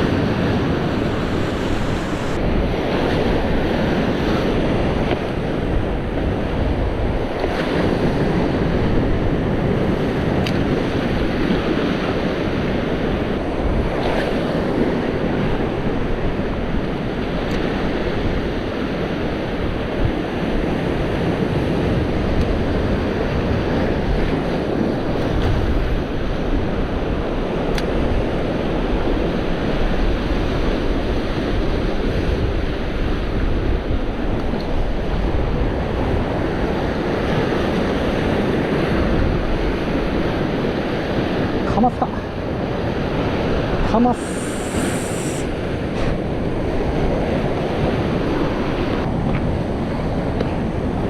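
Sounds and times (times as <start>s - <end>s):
surf washing against rocks: 0.0s - 51.0s
wind buffeting microphone: 0.0s - 51.0s.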